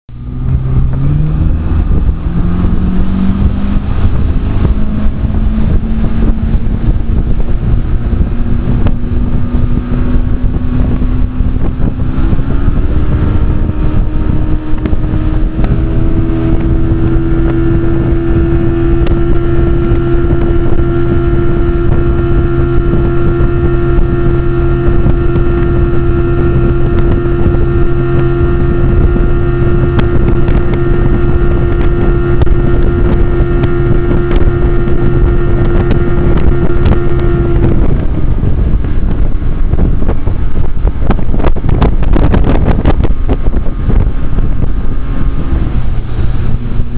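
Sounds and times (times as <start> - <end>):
outboard motor running: 0.1 - 46.9
wind buffeting microphone: 0.1 - 46.9.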